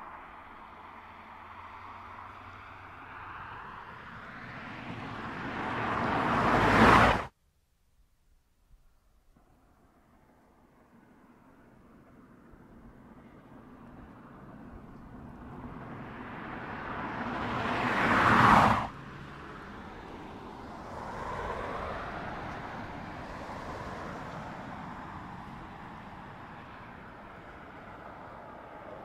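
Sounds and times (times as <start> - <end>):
car driving past: 0.1 - 7.3, 10.8 - 29.0.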